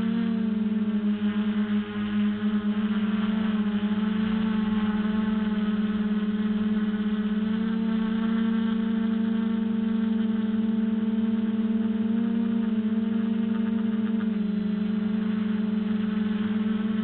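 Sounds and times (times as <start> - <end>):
quadcopter propellers humming: 0.0 - 17.0.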